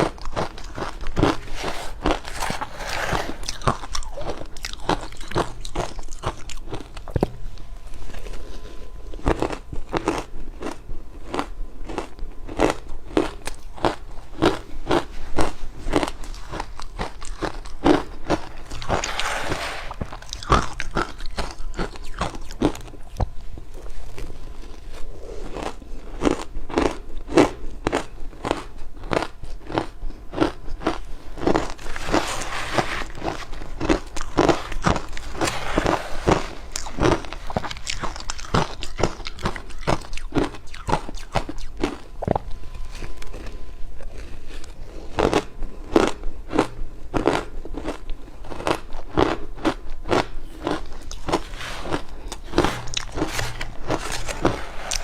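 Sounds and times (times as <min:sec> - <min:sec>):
chewing and crunching ice: 0:00.0 - 0:55.0.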